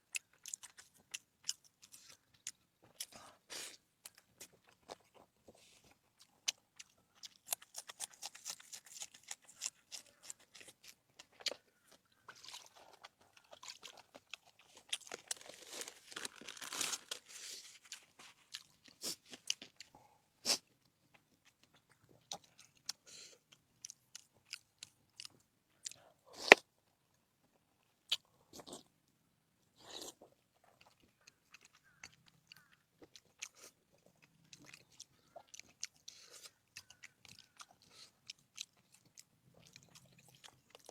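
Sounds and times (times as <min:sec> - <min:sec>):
crunchy food chewing: 0:00.0 - 0:26.7, 0:27.4 - 0:29.0, 0:29.8 - 0:40.9.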